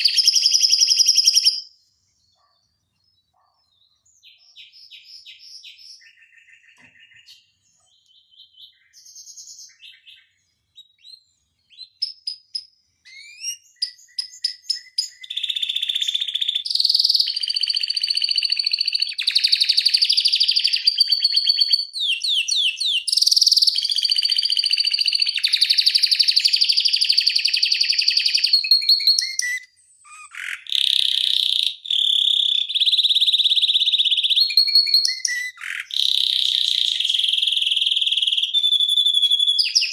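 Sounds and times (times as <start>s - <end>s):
canary singing: 0.0s - 1.8s, 3.4s - 39.9s.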